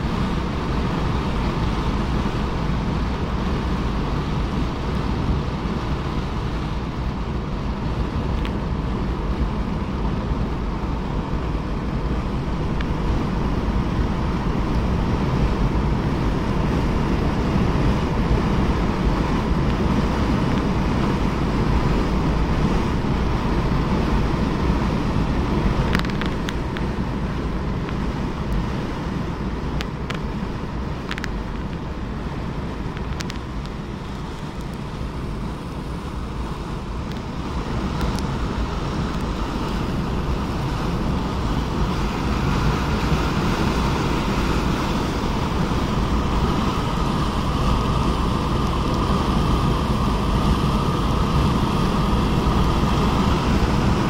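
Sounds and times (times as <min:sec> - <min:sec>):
road and engine noise inside car: 0:00.0 - 0:54.0
wind noise: 0:00.0 - 0:54.0.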